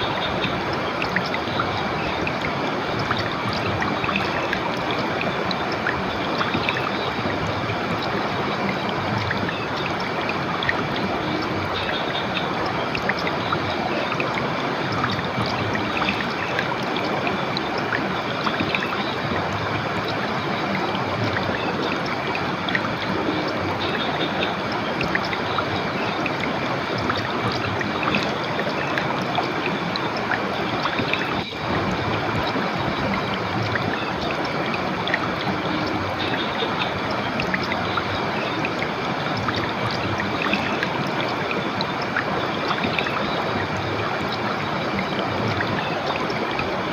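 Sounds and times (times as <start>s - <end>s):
river water rushing over rocks: 0.0s - 46.9s.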